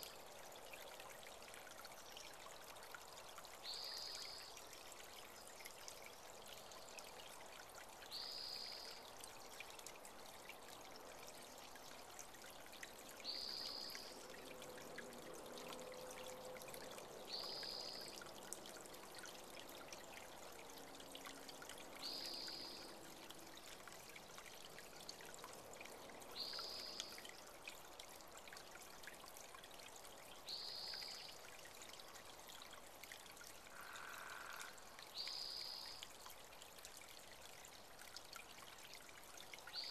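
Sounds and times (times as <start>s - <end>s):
creek trickling over rocks: 0.0s - 39.9s.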